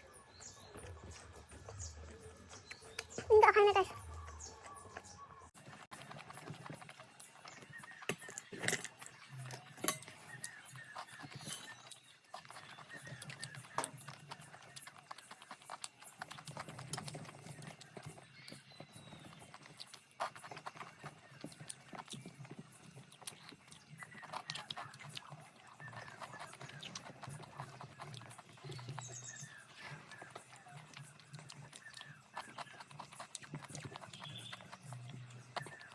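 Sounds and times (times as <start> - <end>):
chewing crunches: 4.0 - 35.9.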